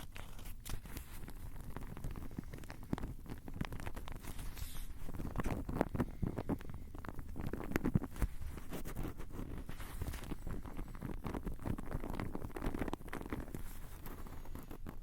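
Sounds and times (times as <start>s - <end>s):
rustling: 0.0s - 15.0s
scratching: 0.0s - 15.0s.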